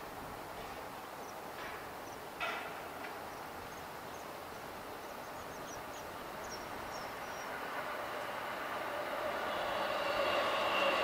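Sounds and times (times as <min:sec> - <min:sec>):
distant traffic hum: 0:00.0 - 0:11.0.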